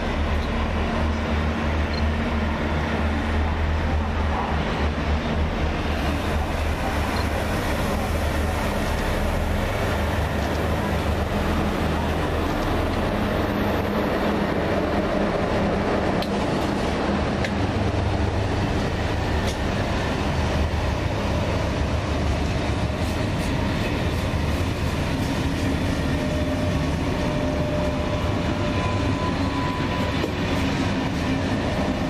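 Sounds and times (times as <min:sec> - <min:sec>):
locomotive hum: 0:00.0 - 0:32.0
train wheels rumbling on rails: 0:00.0 - 0:32.0.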